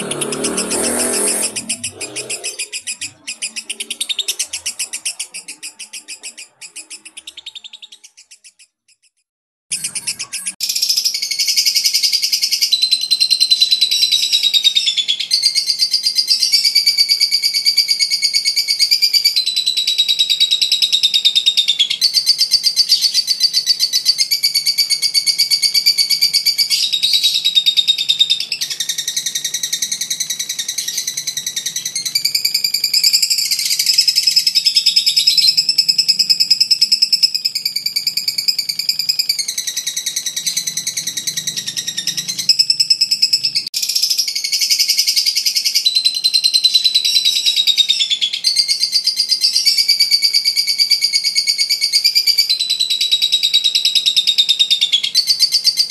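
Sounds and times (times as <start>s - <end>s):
lovebird chattering trill: 0.0s - 55.9s.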